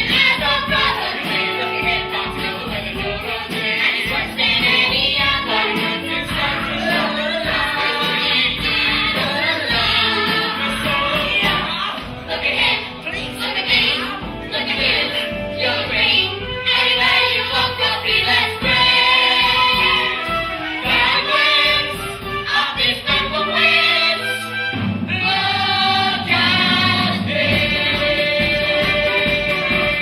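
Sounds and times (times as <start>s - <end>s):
cast singing as a chorus: 0.0s - 24.4s, 25.1s - 30.0s
instrumental accompaniment: 0.0s - 30.0s.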